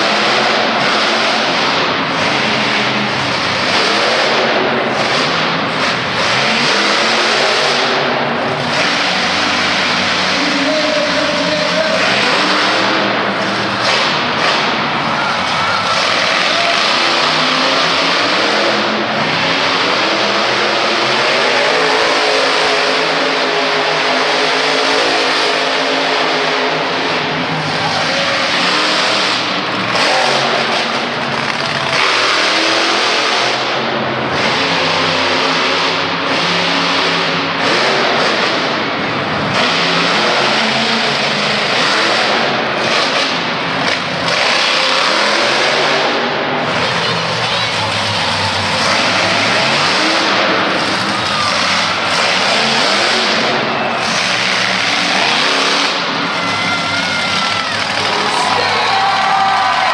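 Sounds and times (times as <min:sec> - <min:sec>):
monster truck engine revving: 0:00.0 - 0:59.9.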